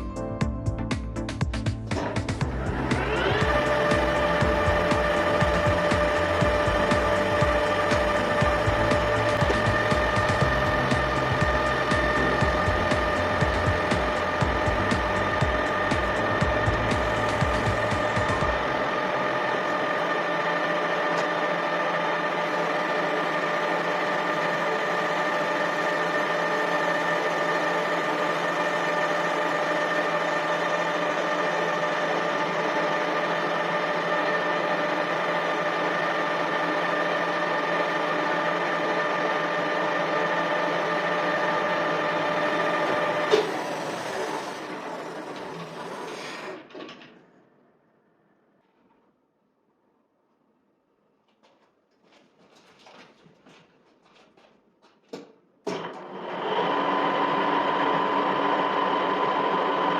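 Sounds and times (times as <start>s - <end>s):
machine winding down: 1.2s - 47.7s, 55.7s - 59.9s
lathe whining: 1.9s - 47.2s, 55.7s - 59.9s.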